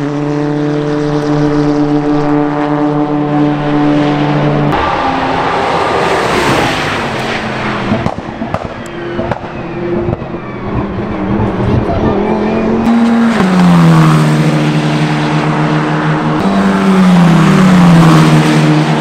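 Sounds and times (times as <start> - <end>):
distant race car passing: 0.0 - 19.0
race car engine driving past: 0.0 - 19.0.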